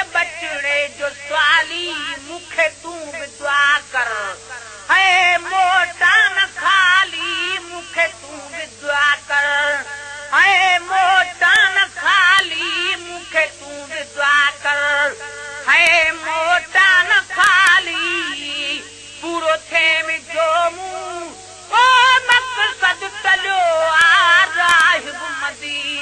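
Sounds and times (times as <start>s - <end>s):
faint steady hum: 0.0s - 26.0s
person singing with vibrato: 0.0s - 26.0s.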